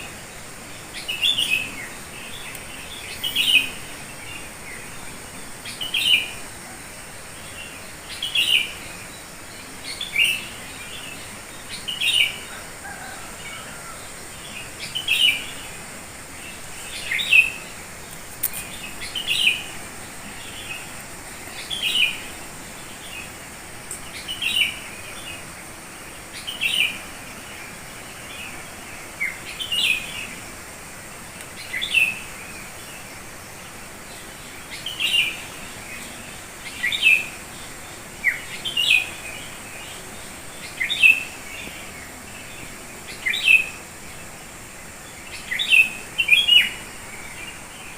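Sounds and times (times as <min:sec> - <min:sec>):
bird chirping: 0:00.0 - 0:47.9
faint high hiss: 0:00.0 - 0:47.9.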